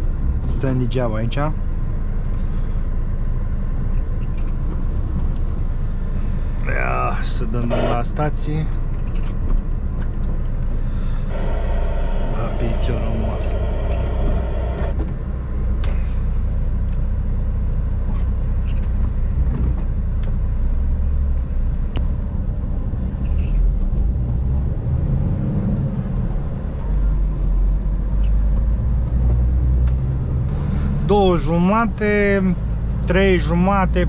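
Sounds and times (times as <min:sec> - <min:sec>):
truck engine and road rumble: 0:00.0 - 0:34.0.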